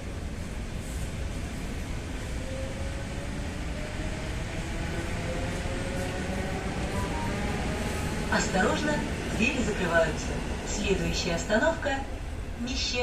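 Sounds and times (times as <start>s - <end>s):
train interior rumble and hum: 0.0s - 13.0s.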